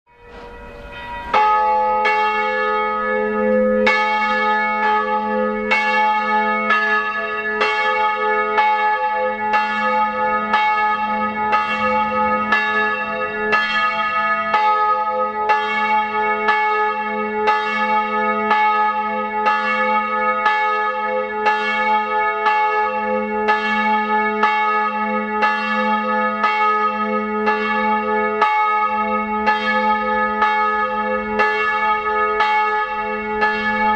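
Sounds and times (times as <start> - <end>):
church bell ringing: 0.1 - 33.9.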